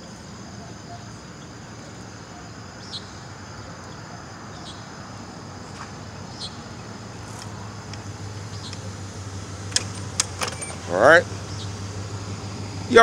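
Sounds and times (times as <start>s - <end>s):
insects chirping: 0.0s - 13.0s
traffic hum: 0.0s - 13.0s.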